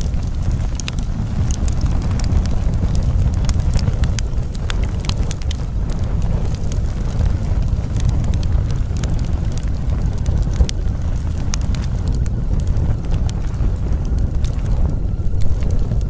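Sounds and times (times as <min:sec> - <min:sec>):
fire crackling and popping: 0:00.0 - 0:16.0
fire low rumble: 0:00.0 - 0:16.0.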